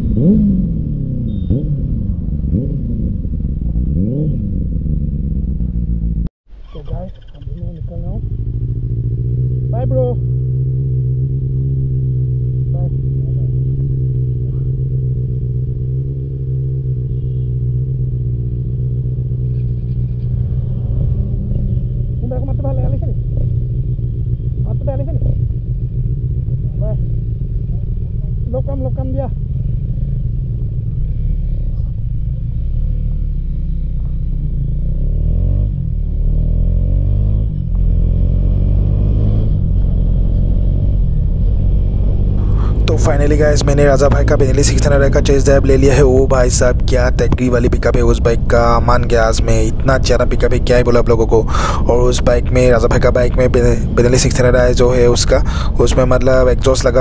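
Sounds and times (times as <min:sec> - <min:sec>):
low wind rumble: 0:00.0 - 0:19.5, 0:20.1 - 0:57.0
motorcycle engines idling: 0:00.0 - 0:36.2, 0:42.4 - 0:57.0.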